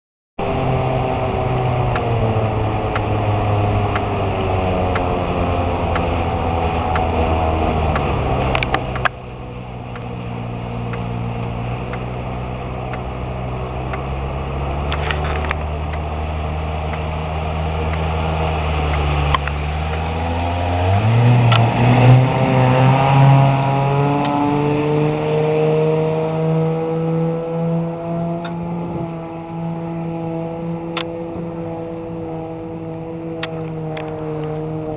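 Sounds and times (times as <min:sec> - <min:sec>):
boat engine running: 0:00.4 - 0:34.9.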